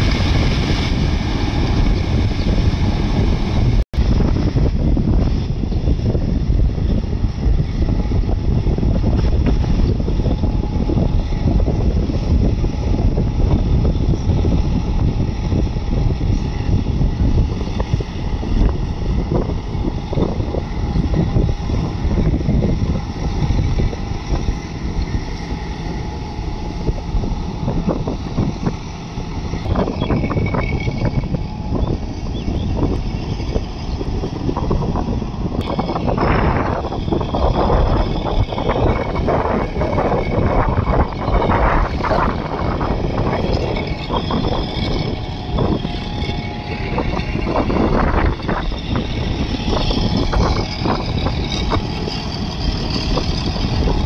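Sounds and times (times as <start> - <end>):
tractor diesel engine droning: 0.0 - 54.0
wind buffeting microphone: 0.0 - 54.0.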